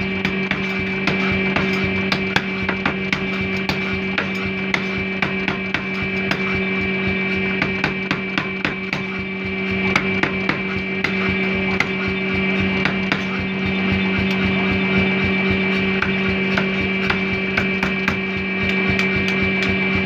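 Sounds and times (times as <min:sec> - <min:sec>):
power hammer humming: 0:00.0 - 0:20.0
hammer ram striking steel: 0:00.2 - 0:19.9.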